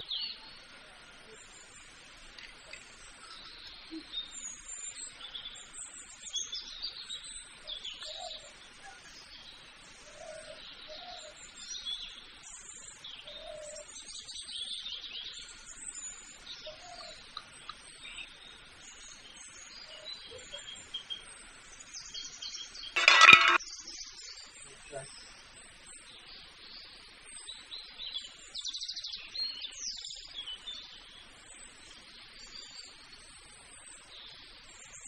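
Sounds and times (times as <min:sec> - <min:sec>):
birds chirping and twittering: 0:00.0 - 0:35.0.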